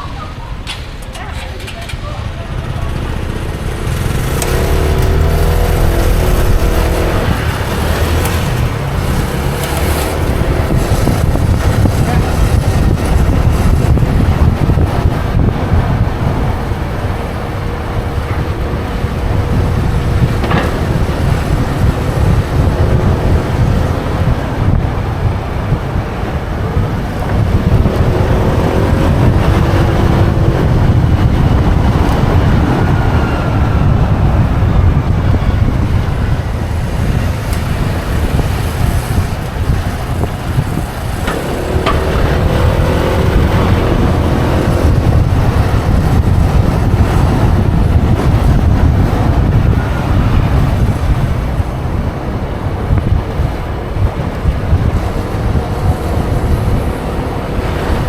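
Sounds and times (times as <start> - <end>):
wind rushing on microphone: 0.0 - 58.0
motorbike engine revving: 1.3 - 58.0.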